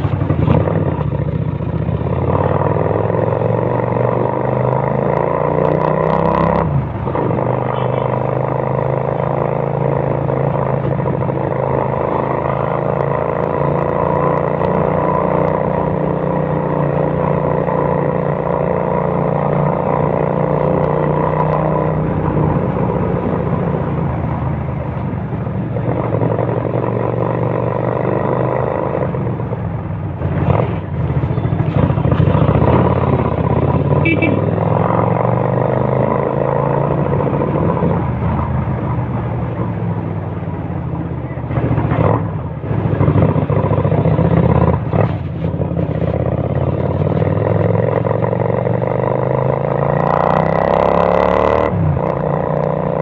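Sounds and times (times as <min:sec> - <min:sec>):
motorcycle engine rumbling: 0:00.0 - 0:53.0.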